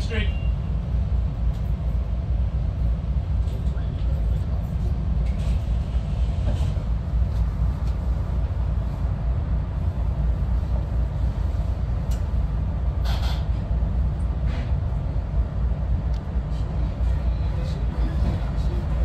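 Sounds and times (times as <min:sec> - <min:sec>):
moving train rumble: 0:00.0 - 0:19.0.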